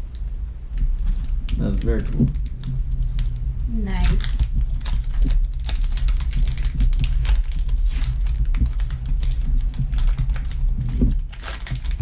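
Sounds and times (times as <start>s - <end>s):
low steady hum: 0.0s - 12.0s
foil wrappers crinkling: 0.8s - 12.0s.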